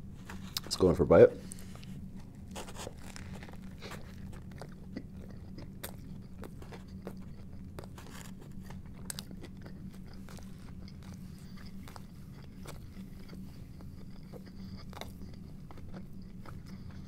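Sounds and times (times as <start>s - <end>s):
biting sandwich: 1.4s - 17.0s
chewing: 1.4s - 17.0s
toast crunching: 1.4s - 17.0s.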